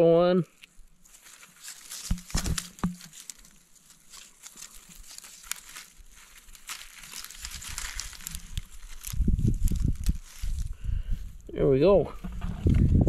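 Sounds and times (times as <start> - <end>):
dry grass and leaves rustling: 0.0 - 13.0.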